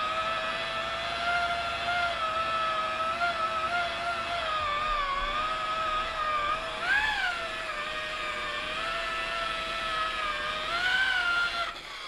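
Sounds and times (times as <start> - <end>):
rotary polisher motor whine: 0.0 - 12.0.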